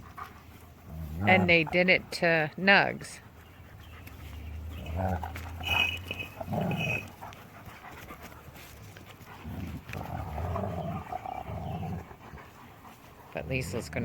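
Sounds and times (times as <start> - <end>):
dogs growling: 0.0 - 2.0, 3.4 - 8.4, 9.2 - 14.0
dogs panting: 0.0 - 14.0.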